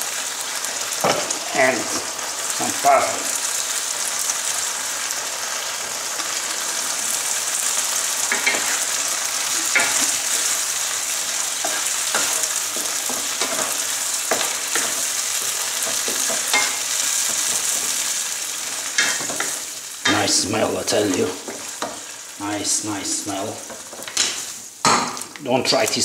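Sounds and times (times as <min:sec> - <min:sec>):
pasta sizzling in a frying pan: 0:00.0 - 0:26.0.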